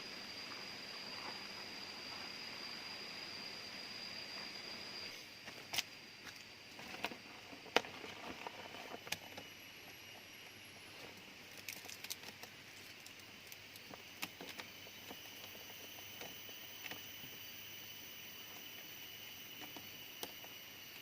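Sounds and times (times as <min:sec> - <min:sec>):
faint high-pitched hum and hiss: 0:00.0 - 0:21.0.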